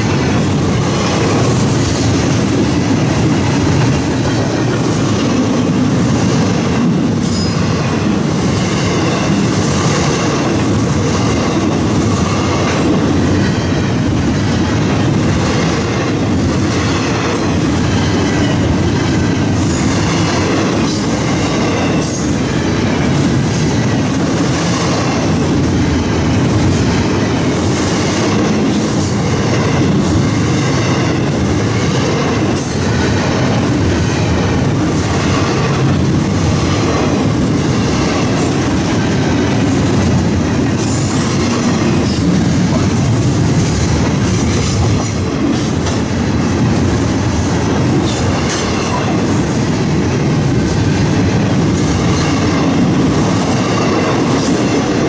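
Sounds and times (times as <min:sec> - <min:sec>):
steel train wheels rumbling on rails: 0:00.0 - 0:55.0.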